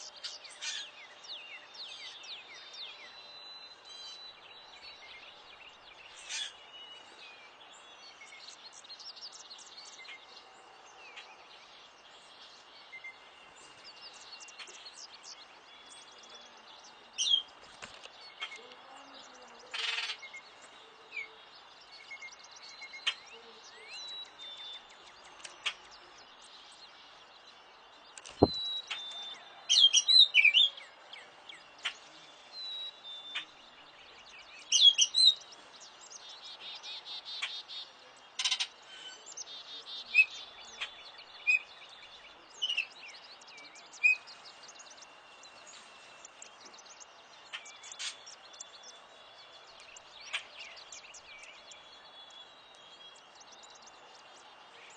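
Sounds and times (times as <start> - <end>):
songbirds chirping and whistling: 0.0 - 54.9.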